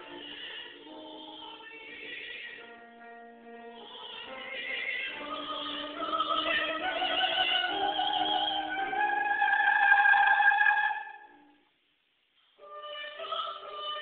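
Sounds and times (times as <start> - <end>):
classical singing: 0.0 - 11.5, 12.6 - 14.0.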